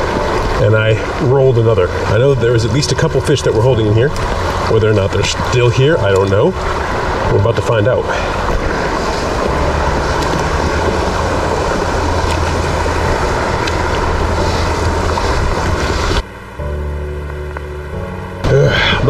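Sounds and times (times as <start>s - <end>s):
low hum: 0.0s - 19.0s
stream rushing over rocks: 0.0s - 19.0s.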